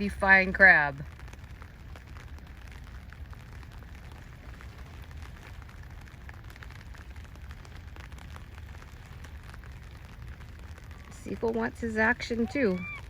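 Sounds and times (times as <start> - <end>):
faint crackles and clicks: 0.0 - 13.0
steady low rumble: 0.0 - 13.0.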